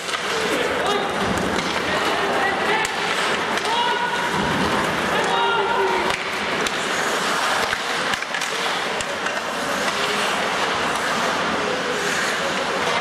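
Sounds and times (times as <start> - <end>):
skates scraping on ice: 0.0 - 13.0
sticks clacking on puck: 0.0 - 13.0.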